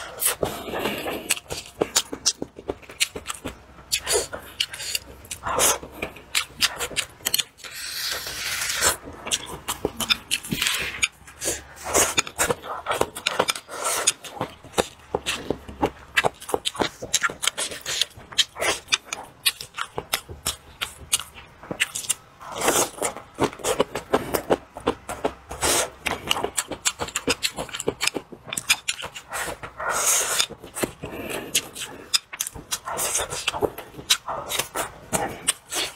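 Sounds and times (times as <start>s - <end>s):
wet chewing and lip-smacking: 0.0s - 35.9s.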